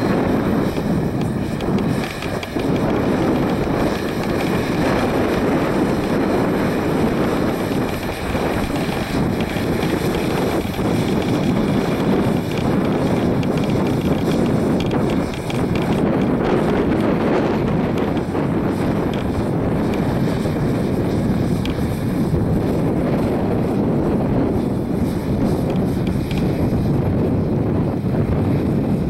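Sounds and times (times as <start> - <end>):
tractor running: 0.0 - 29.0
wind buffeting microphone: 0.0 - 29.0.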